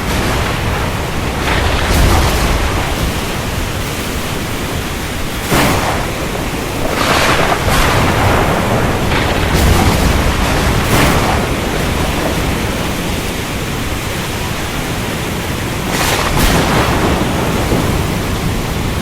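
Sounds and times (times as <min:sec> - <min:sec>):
rush of surf: 0:00.0 - 0:19.0
waves breaking: 0:00.0 - 0:19.0
wind: 0:00.0 - 0:19.0.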